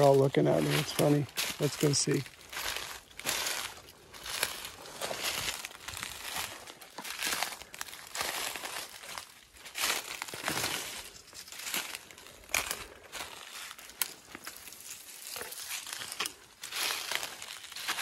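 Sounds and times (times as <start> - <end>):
footsteps crunching through dry leaves: 0.0 - 18.0.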